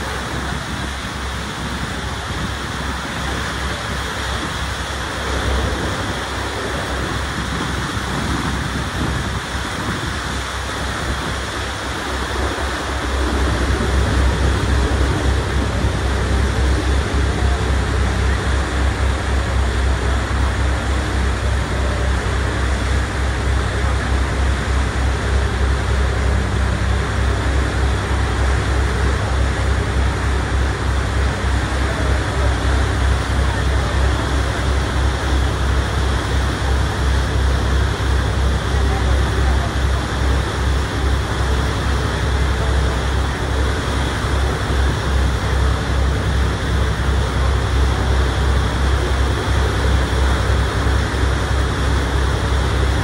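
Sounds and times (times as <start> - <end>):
deep rumble: 0.0 - 53.0
water rushing past ferry: 0.0 - 53.0.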